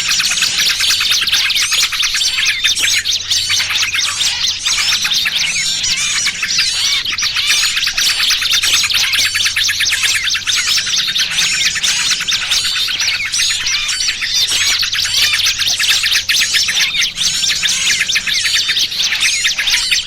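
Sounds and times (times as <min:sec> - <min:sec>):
small birds chirping and chattering: 0:00.0 - 0:20.0.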